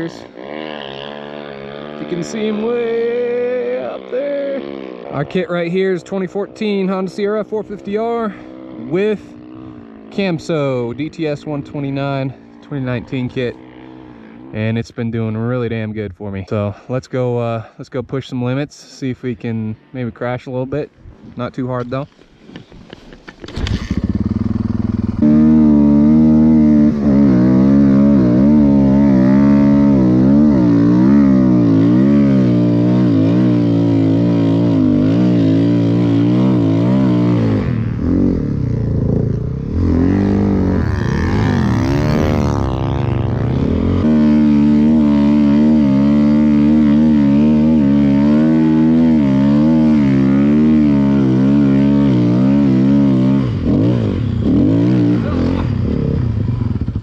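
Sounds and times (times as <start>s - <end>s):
snowbike engine revving: 0.0s - 14.8s, 23.5s - 57.0s.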